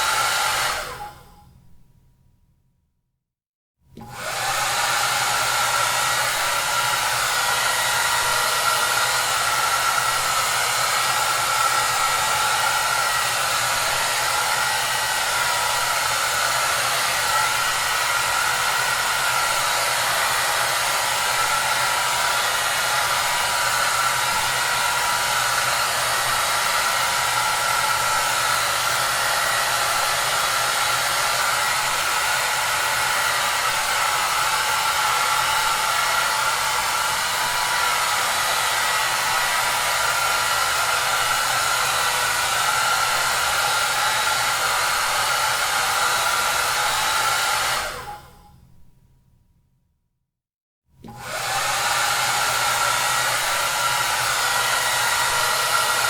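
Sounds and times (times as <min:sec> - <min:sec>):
hair dryer running: 0:00.0 - 0:01.4, 0:03.9 - 0:48.4, 0:51.0 - 0:56.0.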